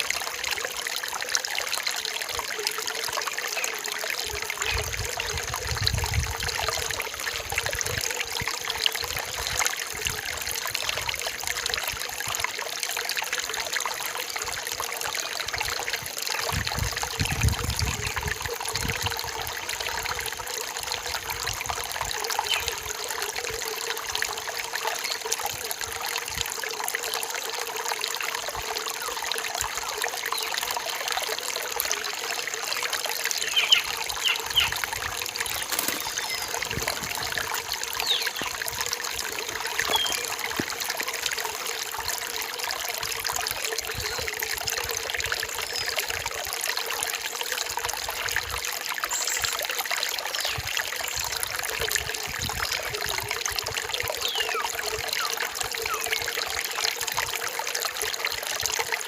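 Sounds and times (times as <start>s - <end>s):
forest stream trickling: 0.0s - 59.0s.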